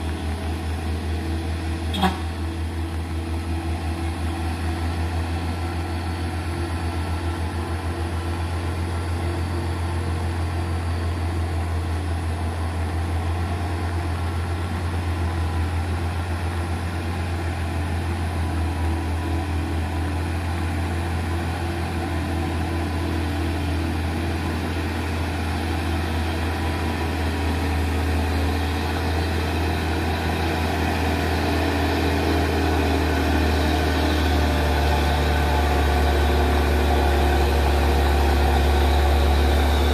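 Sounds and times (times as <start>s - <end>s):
diesel truck engine straining: 0.0s - 39.9s.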